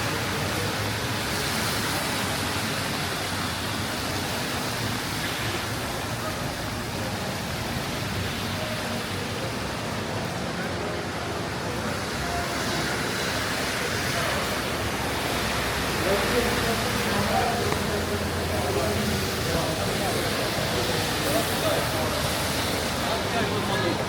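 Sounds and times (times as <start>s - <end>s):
rain on wet street: 0.0s - 24.0s.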